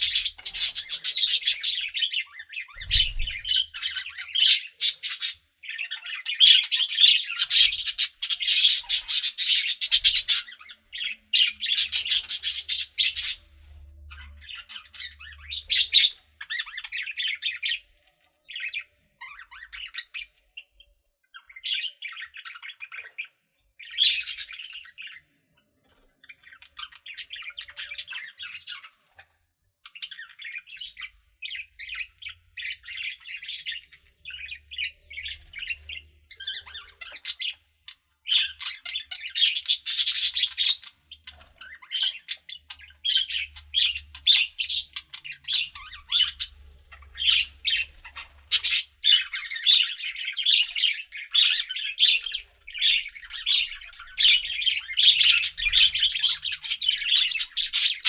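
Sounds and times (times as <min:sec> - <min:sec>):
budgerigars chattering: 0:00.0 - 0:13.5, 0:14.1 - 0:17.9, 0:21.4 - 0:25.2, 0:29.9 - 0:58.0.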